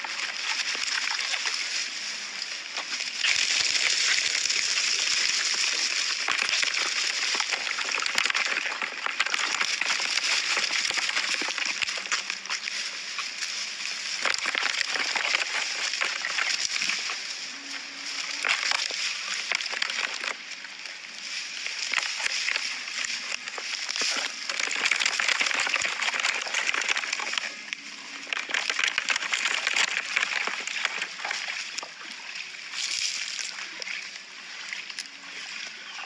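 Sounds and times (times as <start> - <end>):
small crackles and clicks: 0.0 - 32.0
water sloshing and splashing: 0.0 - 36.0.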